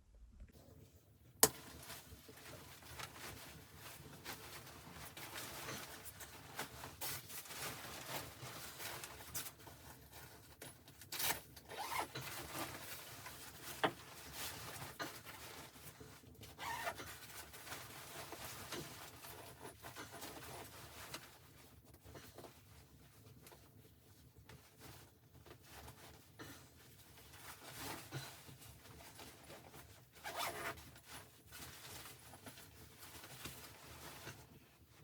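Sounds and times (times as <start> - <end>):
rustling and handling gear: 0.8 - 35.0.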